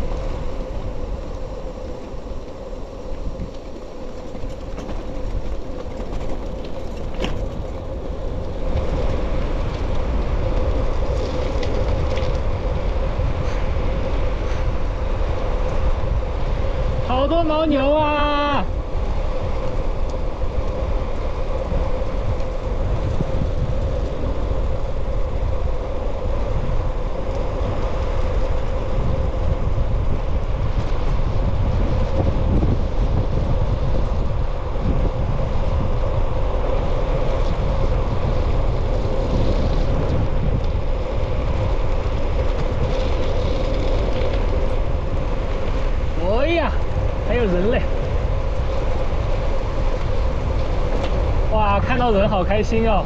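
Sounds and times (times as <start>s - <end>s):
tyres rattling over rough road: 0.0s - 18.0s, 18.7s - 53.0s
wind buffeting microphone: 0.0s - 53.0s.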